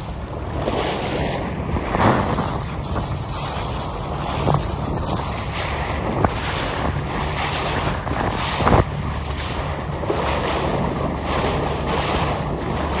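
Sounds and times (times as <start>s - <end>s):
water splashing against hull: 0.0s - 13.0s
wind buffeting microphone: 0.0s - 13.0s.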